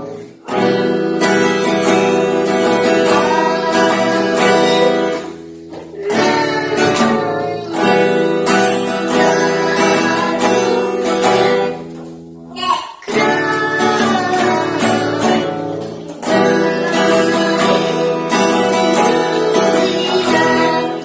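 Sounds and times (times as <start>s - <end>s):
boy singing: 0.0s - 11.9s, 12.5s - 21.0s
acoustic guitar strumming: 0.0s - 21.0s.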